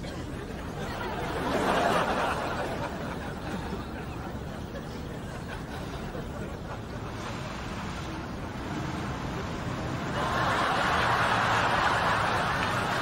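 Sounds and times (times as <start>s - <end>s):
audience laughing: 0.0s - 7.6s, 10.0s - 13.0s.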